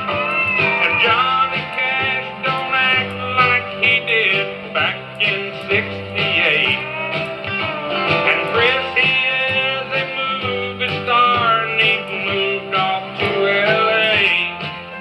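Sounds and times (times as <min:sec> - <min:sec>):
country song with guitar: 0:00.0 - 0:15.0
person singing: 0:00.0 - 0:15.0.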